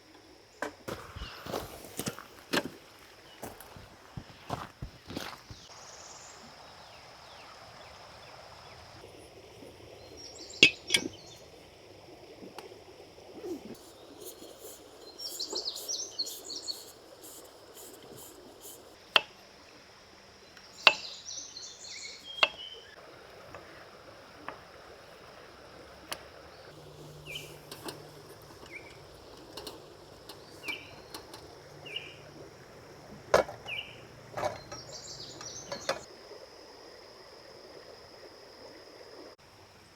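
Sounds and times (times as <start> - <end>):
flowing creek: 0.0 - 39.9
birds chirping: 0.5 - 11.6, 12.5 - 19.0, 20.5 - 36.1.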